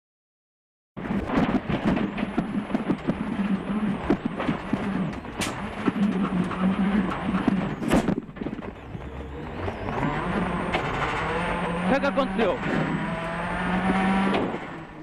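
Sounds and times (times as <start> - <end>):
rally car engine at high revs: 1.0 - 15.0.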